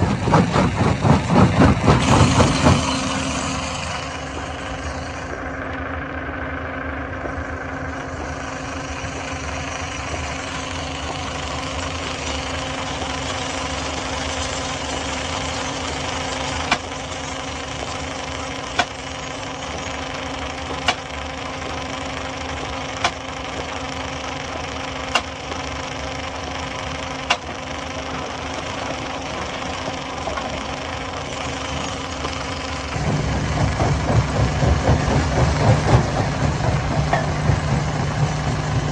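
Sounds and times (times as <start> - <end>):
stone crusher droning: 0.0 - 38.9.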